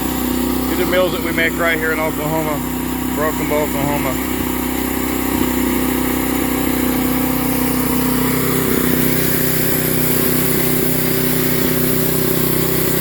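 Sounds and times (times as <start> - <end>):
sawmill engine running: 0.0 - 13.0
whine: 0.0 - 13.0.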